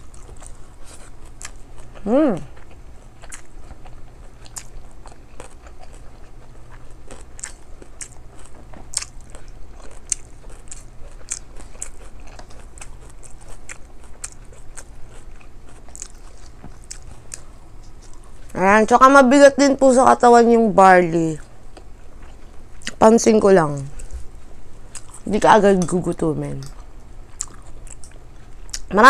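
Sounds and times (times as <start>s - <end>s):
close-up chewing: 0.0s - 18.6s, 21.4s - 23.0s, 23.7s - 28.9s.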